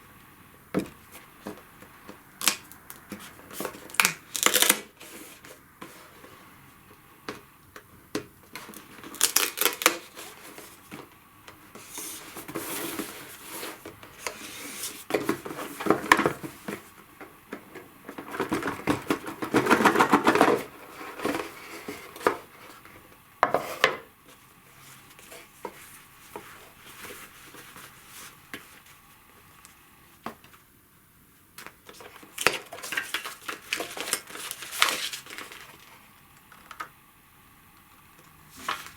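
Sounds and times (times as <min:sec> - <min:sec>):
cardboard and paper rustling: 0:00.7 - 0:30.7, 0:31.6 - 0:36.8, 0:38.4 - 0:38.9.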